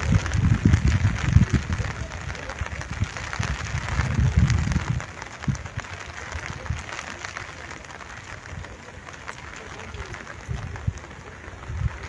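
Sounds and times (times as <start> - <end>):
gentle rain patter: 0.0 - 12.0.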